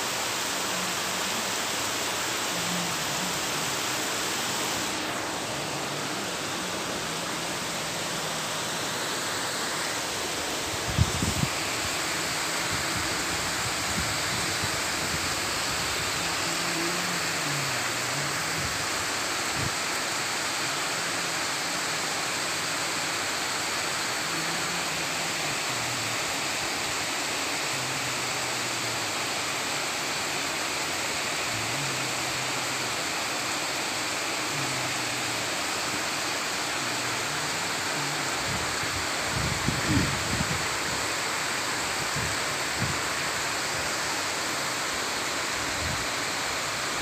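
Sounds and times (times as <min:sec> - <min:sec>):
heavy rain on a pond: 0:00.0 - 0:47.0.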